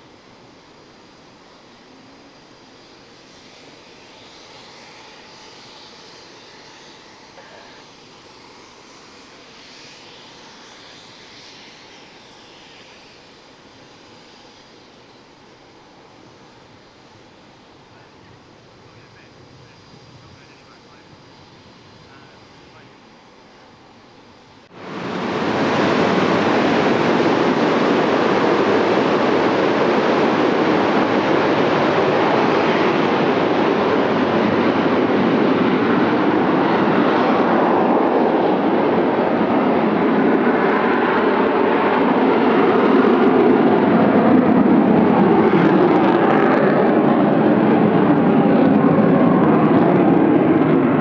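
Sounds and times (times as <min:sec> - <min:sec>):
jet engines roaring: 0:00.0 - 0:51.0.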